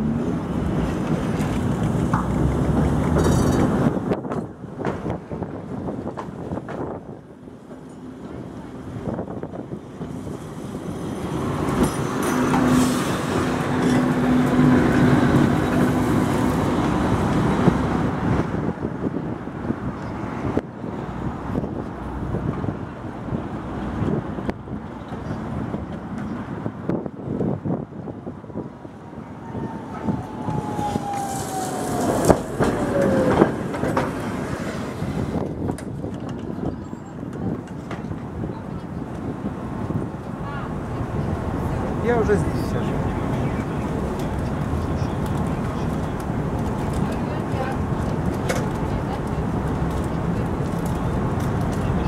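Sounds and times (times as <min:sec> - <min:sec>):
tram wheels rumbling on rails: 0:00.0 - 0:52.0.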